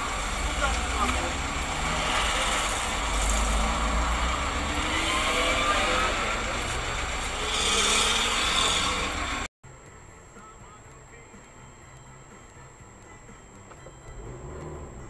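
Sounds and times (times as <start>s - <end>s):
car road and engine noise: 0.0s - 15.0s
traffic noise: 0.0s - 15.0s.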